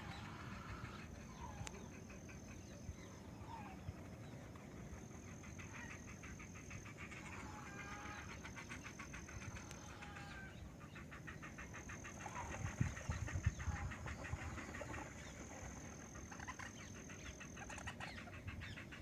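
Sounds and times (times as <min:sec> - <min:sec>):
wild birds calling: 0:00.0 - 0:19.0.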